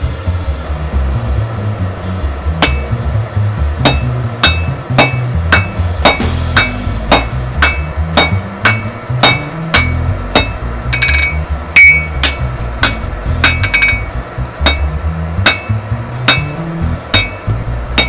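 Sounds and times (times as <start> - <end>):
background music: 0.0 - 18.0
hammer striking steel on anvil: 2.6 - 3.1, 3.8 - 18.0.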